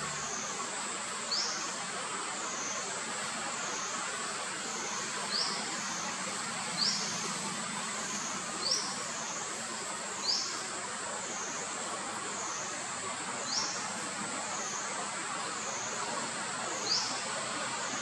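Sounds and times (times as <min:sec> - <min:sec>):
insect drone: 0:00.0 - 0:18.0
steady hiss: 0:00.0 - 0:18.0.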